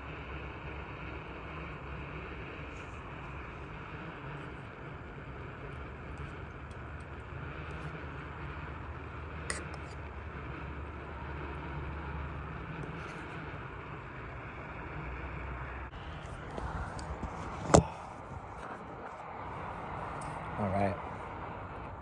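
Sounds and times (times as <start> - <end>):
distant road traffic: 0.0 - 22.0.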